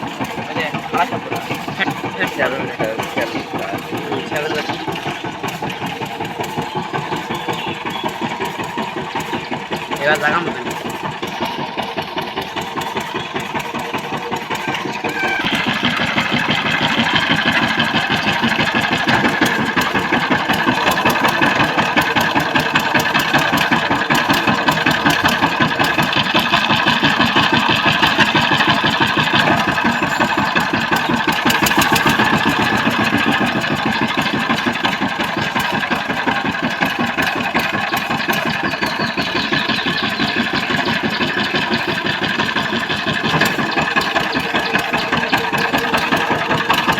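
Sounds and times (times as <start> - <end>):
diesel tiller engine running: 0.0 - 46.9.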